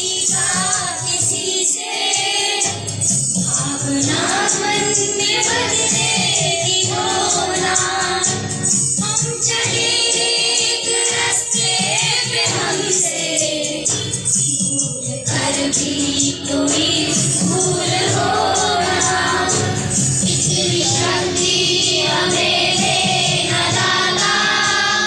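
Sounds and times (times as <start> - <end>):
boys singing in unison: 0.0 - 25.0
rhythmic percussion beat: 0.0 - 25.0.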